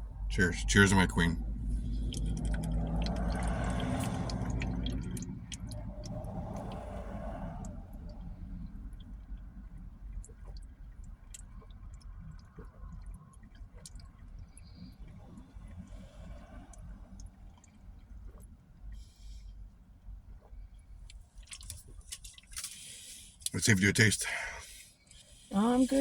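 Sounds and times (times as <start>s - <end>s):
drink sloshing and gulping: 1.2s - 18.8s, 20.2s - 23.6s.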